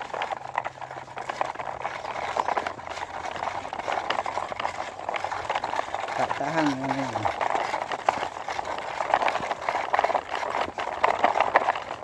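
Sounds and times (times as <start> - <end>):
toy truck wheels scraping grit: 0.0 - 12.0.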